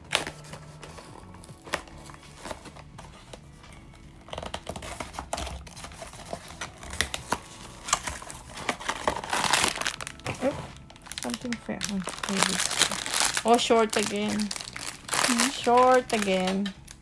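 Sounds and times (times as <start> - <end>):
foil crinkling and tearing: 0.0 - 17.0
packaging clicks: 0.0 - 17.0.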